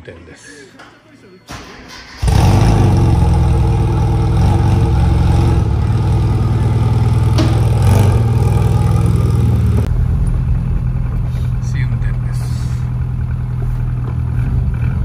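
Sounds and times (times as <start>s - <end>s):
car engine running steadily: 2.2s - 15.0s.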